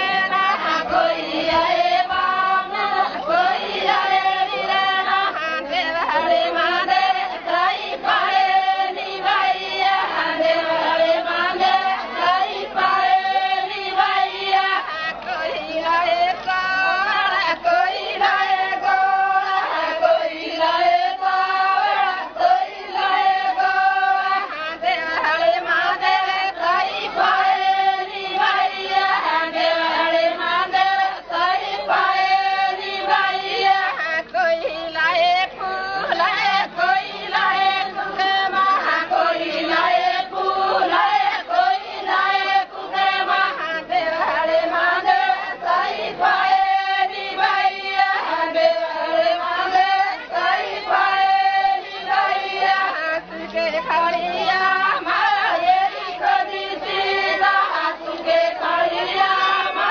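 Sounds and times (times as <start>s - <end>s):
voices singing folk song in chorus: 0.0s - 59.9s.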